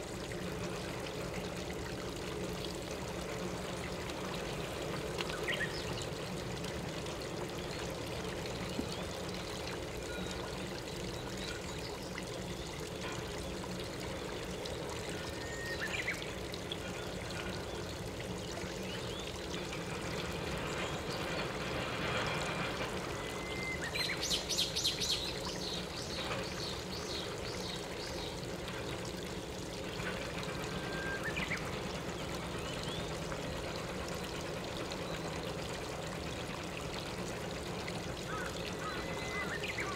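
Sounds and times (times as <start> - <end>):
flowing stream water: 0.0 - 39.9.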